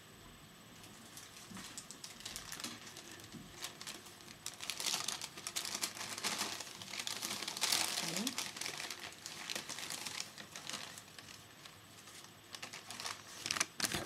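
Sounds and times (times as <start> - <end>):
rustling and crinkling: 0.8 - 14.0.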